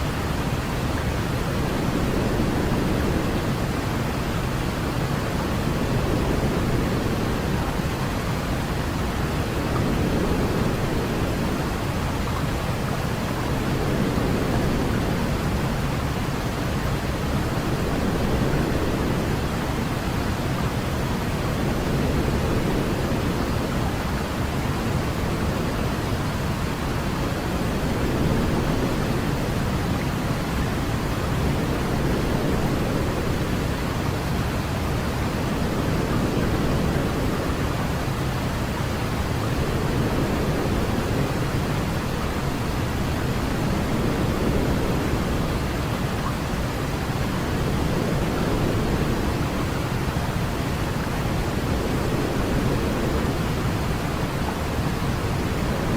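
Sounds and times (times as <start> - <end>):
deep white noise hiss: 0.0 - 55.9.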